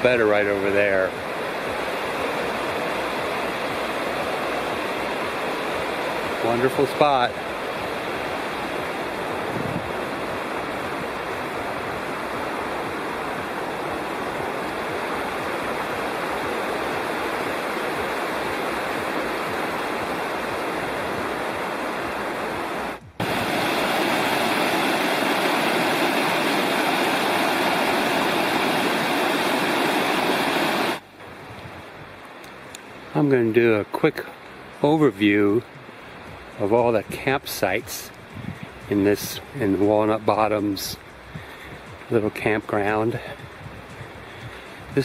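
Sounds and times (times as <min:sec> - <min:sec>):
mountain creek rushing: 0:00.0 - 0:45.0.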